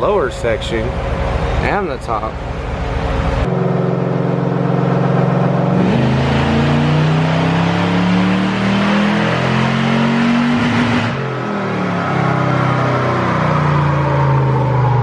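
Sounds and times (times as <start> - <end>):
truck engine revving under load: 2.8 - 15.0.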